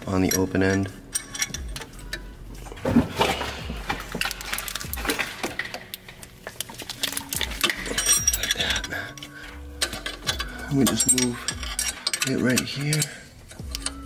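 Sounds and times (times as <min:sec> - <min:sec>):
metal wrenches clinking and scraping: 0:00.0 - 0:14.0.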